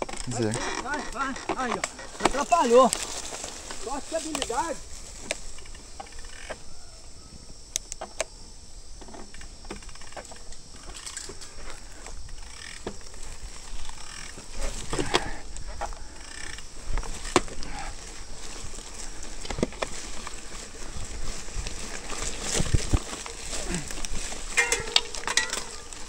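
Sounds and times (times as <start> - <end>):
bike clicks and rattles: 0.0 - 6.9, 7.6 - 8.3, 8.9 - 26.0
rustling: 0.0 - 8.1, 9.0 - 26.0.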